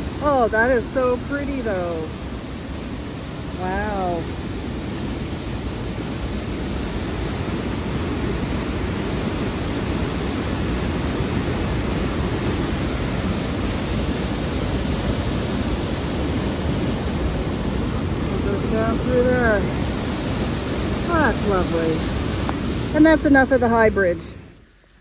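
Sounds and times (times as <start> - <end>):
whitewater rushing over rocks: 0.0 - 25.0.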